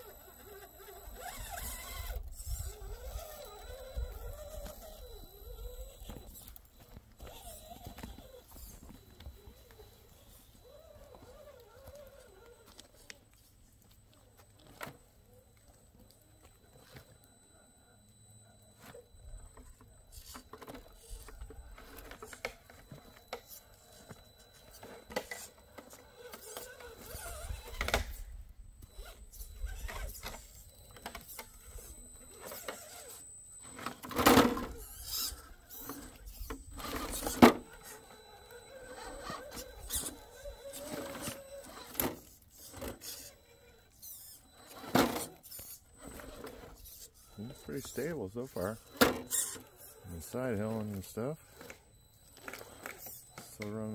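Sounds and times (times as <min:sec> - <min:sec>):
rc car motor and gears: 0:00.0 - 0:53.9.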